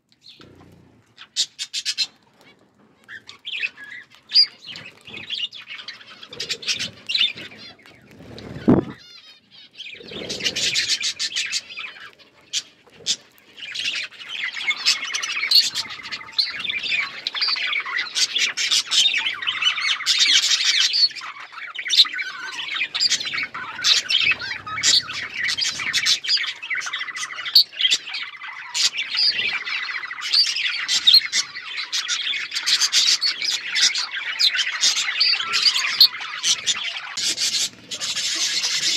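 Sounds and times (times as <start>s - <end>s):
budgerigars chirping and chattering: 0.2s - 38.9s.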